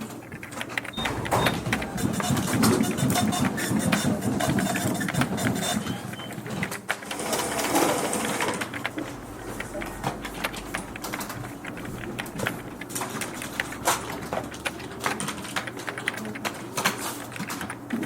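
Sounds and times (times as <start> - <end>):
keyboard clicks: 0.0 - 18.0
printing machine running: 0.0 - 18.0.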